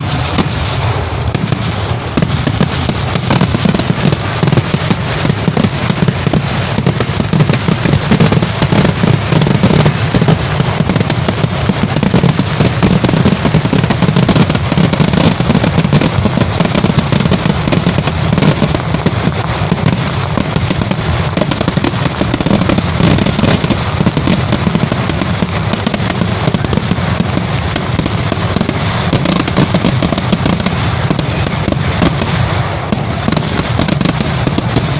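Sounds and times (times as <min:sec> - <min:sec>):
firecrackers cracking and banging: 0:00.0 - 0:34.9.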